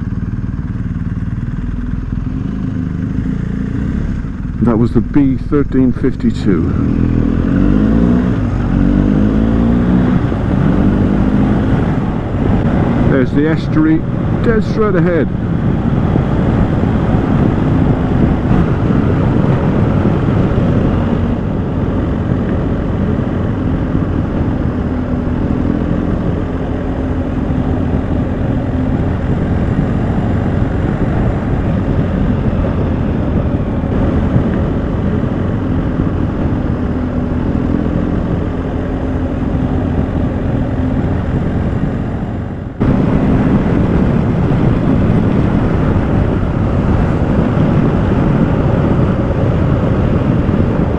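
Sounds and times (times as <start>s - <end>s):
motorcycle engine running: 0.0s - 50.9s
wind rushing over microphone: 1.8s - 50.9s.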